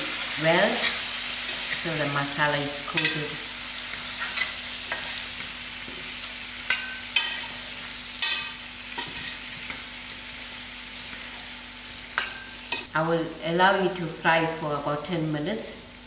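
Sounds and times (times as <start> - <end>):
potatoes sizzling in oil: 0.0 - 14.2, 15.1 - 16.0.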